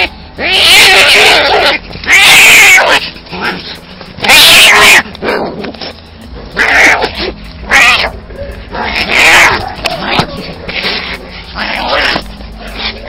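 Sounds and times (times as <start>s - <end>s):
cats screeching: 0.0s - 5.6s, 6.6s - 13.0s.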